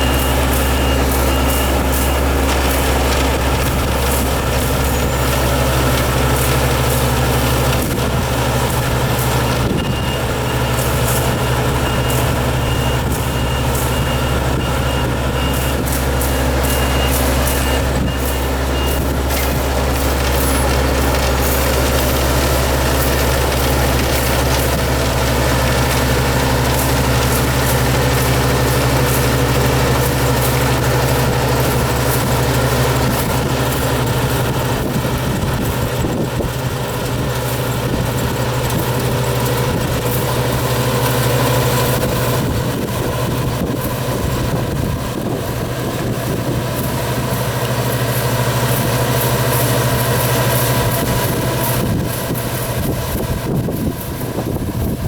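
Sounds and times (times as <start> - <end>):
farm machine engine humming: 0.0 - 55.0.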